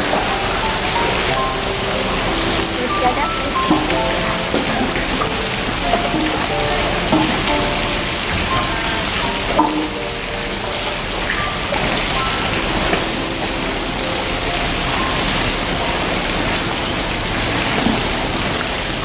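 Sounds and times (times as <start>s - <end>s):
water splashing: 0.0s - 19.0s.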